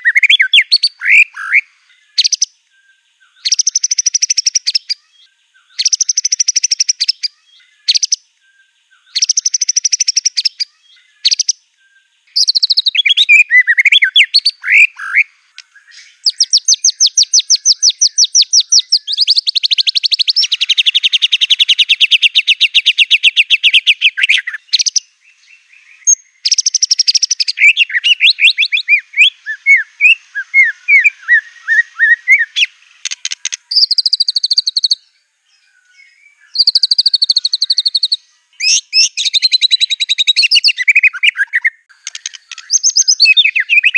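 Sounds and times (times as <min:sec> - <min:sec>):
songbird singing varied song: 0:00.0 - 0:43.9.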